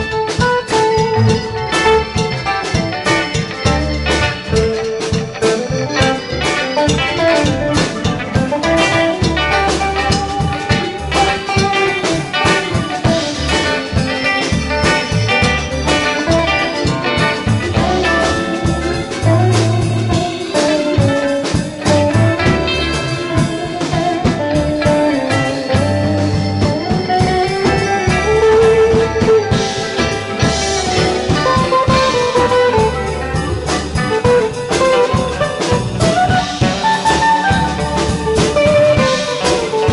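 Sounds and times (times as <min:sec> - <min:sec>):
bass guitar: 0:00.0 - 0:39.9
drum kit: 0:00.0 - 0:39.9
electric guitars: 0:00.0 - 0:39.9
keyboard: 0:00.0 - 0:39.9.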